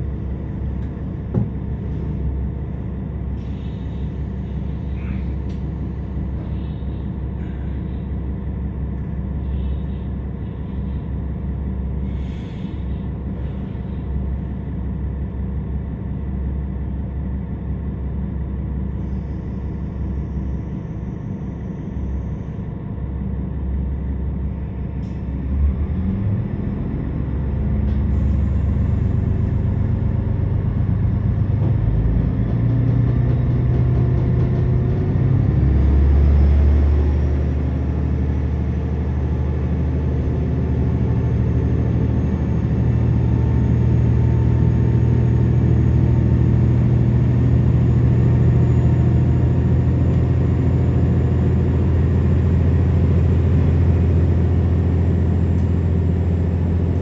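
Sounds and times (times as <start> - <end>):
railcar diesel engine: 0.0 - 57.0.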